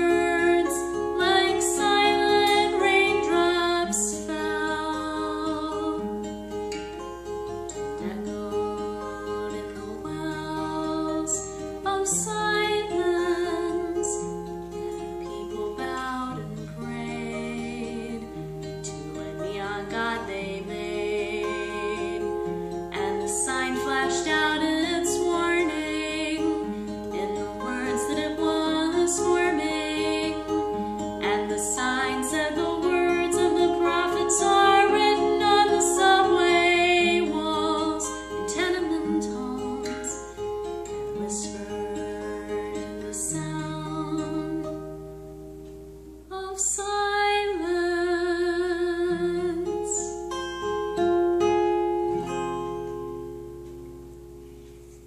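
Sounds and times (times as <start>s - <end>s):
person singing: 0.0s - 6.2s, 7.7s - 45.1s, 46.3s - 50.3s
plucked acoustic guitar: 0.0s - 55.0s.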